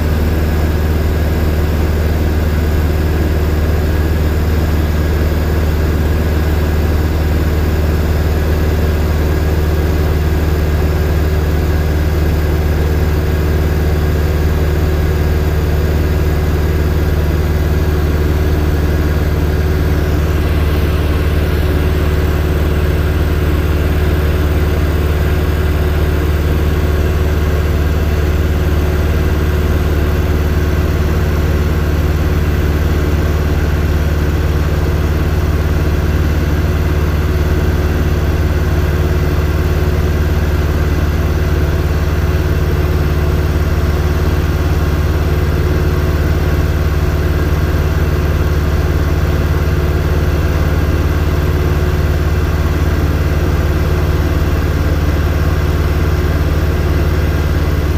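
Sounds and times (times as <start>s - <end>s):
aircraft engine drone in cockpit: 0.0s - 57.9s.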